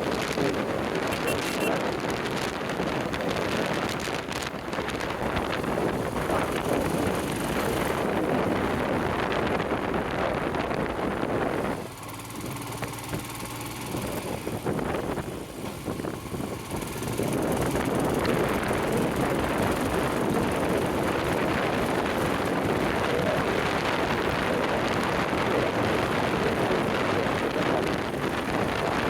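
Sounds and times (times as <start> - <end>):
wind noise on microphone: 0.0 - 29.0
motorcycle engine running: 0.1 - 29.0.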